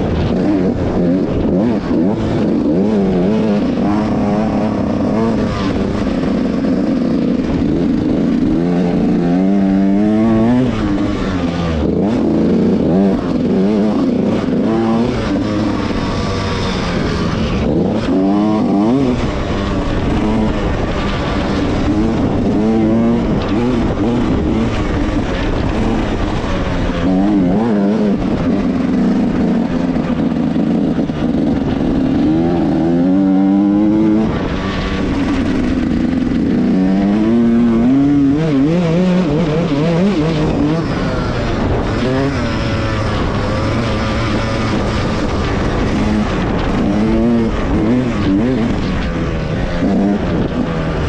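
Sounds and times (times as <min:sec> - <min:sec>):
two-stroke motorcycle engine revving: 0:00.0 - 0:51.0.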